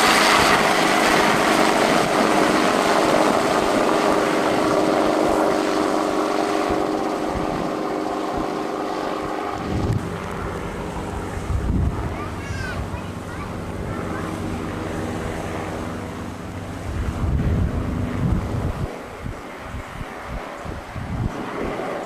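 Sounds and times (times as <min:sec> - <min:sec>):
wind rumbling on microphone: 0:00.0 - 0:13.0, 0:14.7 - 0:22.0
helicopter engine and rotor hum: 0:00.0 - 0:22.0.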